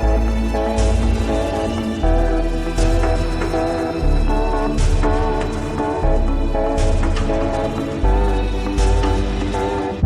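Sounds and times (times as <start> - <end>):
sustained synth notes over bass: 0.0 - 10.0.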